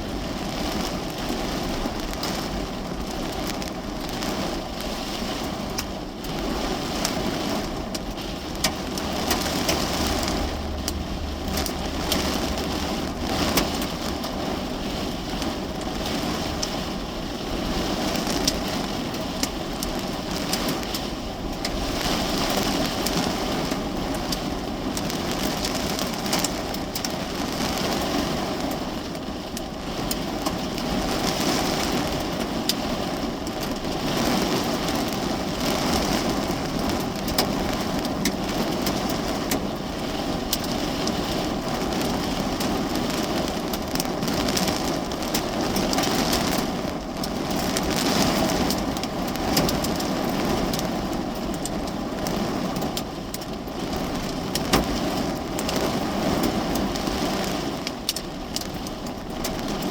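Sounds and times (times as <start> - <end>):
heavy rain on car roof: 0.0 - 59.9
sharp taps of raindrops: 0.6 - 59.9.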